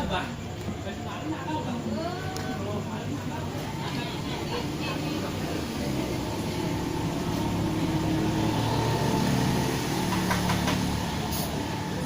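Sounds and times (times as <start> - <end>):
motor vehicle engine hum: 0.0 - 12.0.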